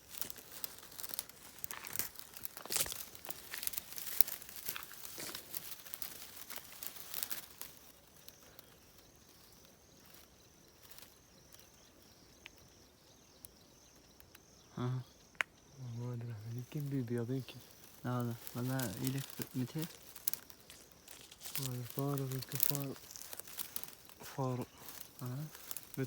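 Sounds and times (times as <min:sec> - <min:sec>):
high insect trill: 0:00.0 - 0:26.0
leaves and twigs crackling: 0:00.0 - 0:26.0.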